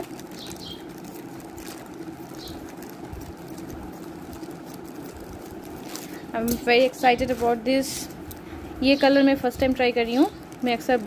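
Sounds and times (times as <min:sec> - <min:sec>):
low background hum: 0:00.0 - 0:11.0
plastic crinkling: 0:00.0 - 0:11.0.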